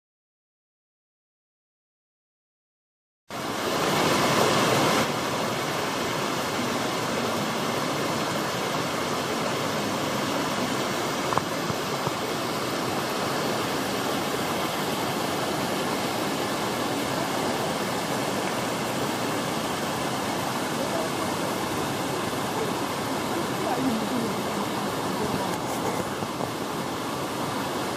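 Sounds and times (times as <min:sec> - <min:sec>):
waterfall rushing: 0:03.3 - 0:27.9.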